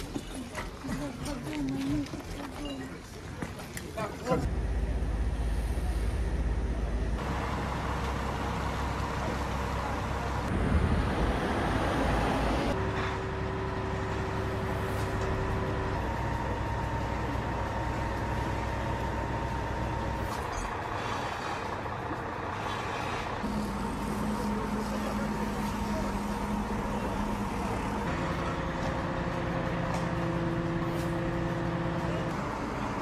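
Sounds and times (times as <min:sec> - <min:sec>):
fire truck engine running: 0:04.5 - 0:33.0.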